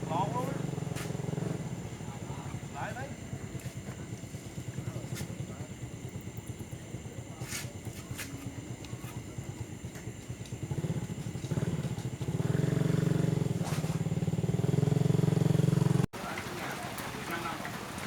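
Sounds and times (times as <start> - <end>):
small engine pulsing: 0.0 - 16.1.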